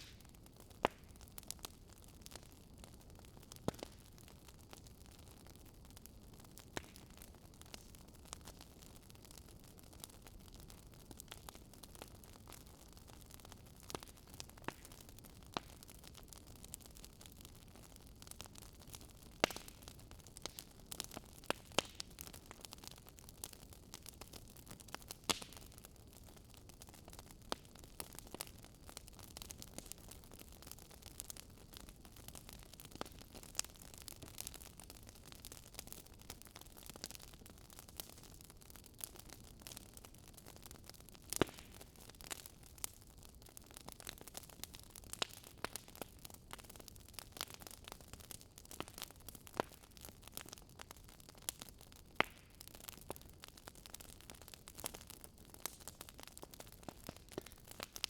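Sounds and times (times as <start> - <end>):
burning wood crackling and popping: 0.0 - 58.0.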